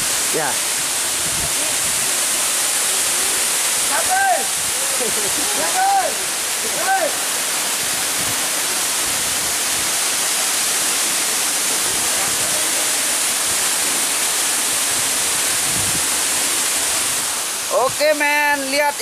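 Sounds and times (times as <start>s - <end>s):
waterfall crashing: 0.0s - 19.0s.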